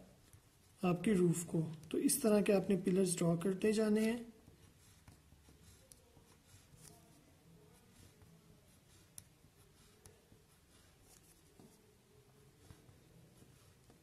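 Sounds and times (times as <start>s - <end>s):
pen scratching on paper: 2.0s - 14.0s.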